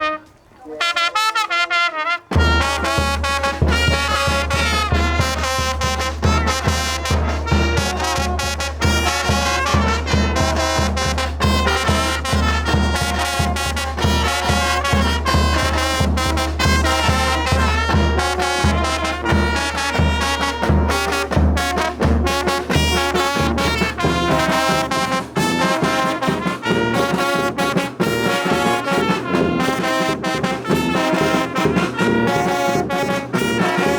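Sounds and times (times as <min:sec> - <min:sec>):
brass band playing: 0:00.0 - 0:33.9.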